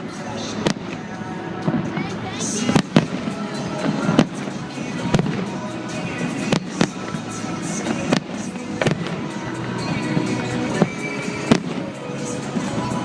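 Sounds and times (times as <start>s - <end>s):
fireworks bangs: 0.0s - 13.0s
music: 0.0s - 13.0s.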